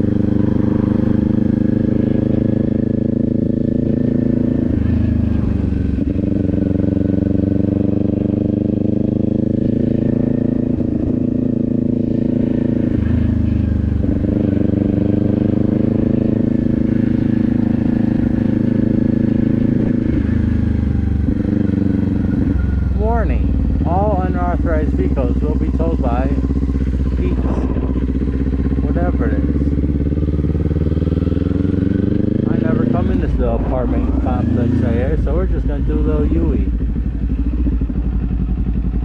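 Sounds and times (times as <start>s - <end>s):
motorcycle engine running slowly: 0.0s - 39.0s.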